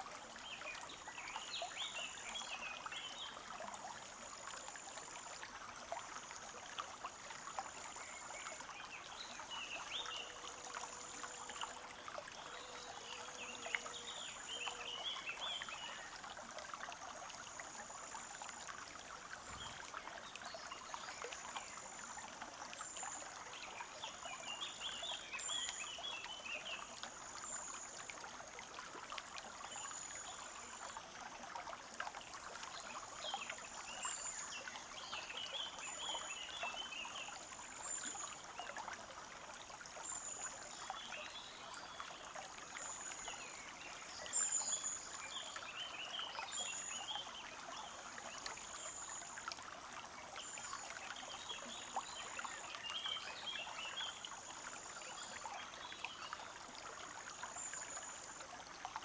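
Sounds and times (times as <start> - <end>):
brook trickling: 0.0 - 59.0.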